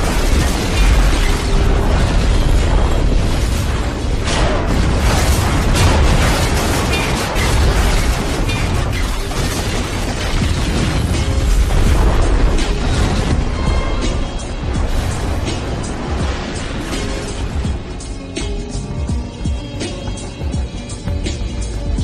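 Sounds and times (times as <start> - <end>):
explosions: 0.0 - 18.7
sharp blasts: 0.0 - 18.8.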